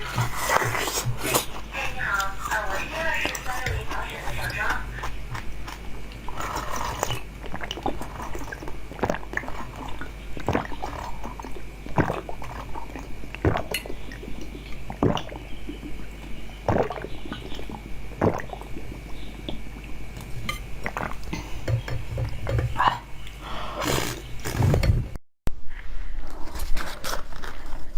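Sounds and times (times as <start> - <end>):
wet squishy chewing: 0.0 - 24.6.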